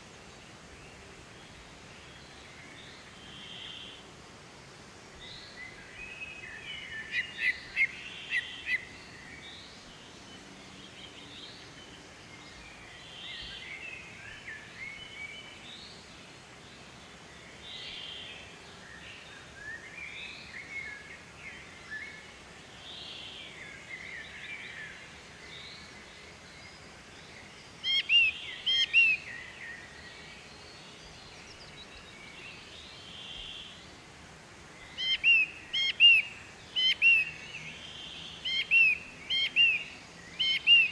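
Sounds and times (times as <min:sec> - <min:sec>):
outdoor background hiss: 0:00.0 - 0:40.9
wild birds chirping: 0:00.0 - 0:40.9.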